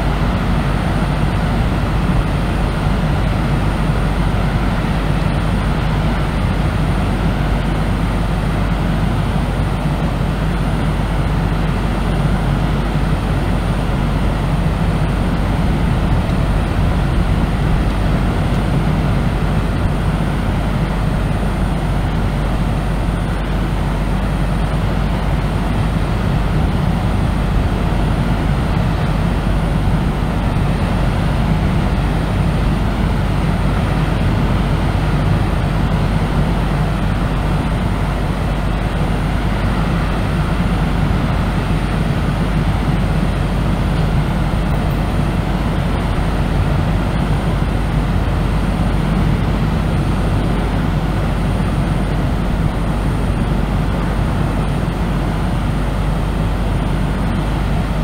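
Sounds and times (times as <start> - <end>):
deep brown noise: 0.0 - 58.0.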